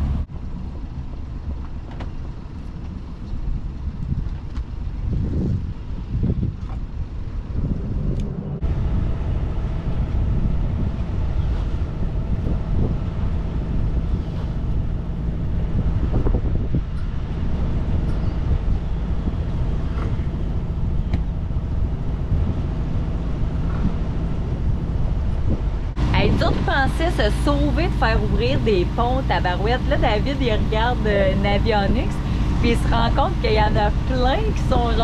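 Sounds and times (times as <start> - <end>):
boat engine running: 0.0 - 35.0
wind noise on microphone: 0.0 - 35.0.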